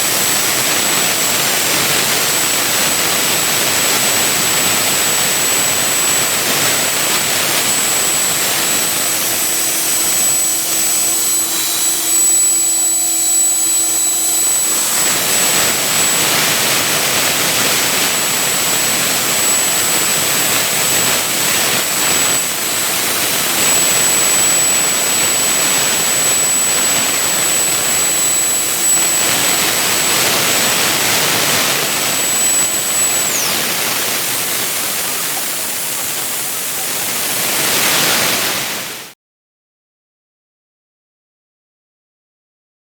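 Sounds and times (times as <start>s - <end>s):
milling machine rushing noise: 0.0s - 39.0s
high machine whine: 0.0s - 39.1s.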